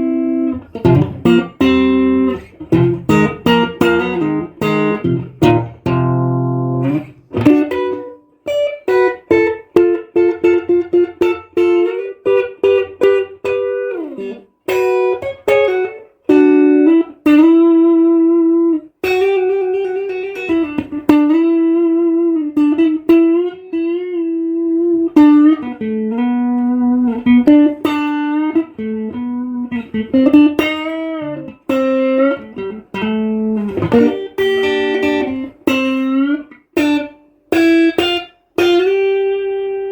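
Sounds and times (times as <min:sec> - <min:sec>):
electric guitar melody: 0:00.0 - 0:39.9.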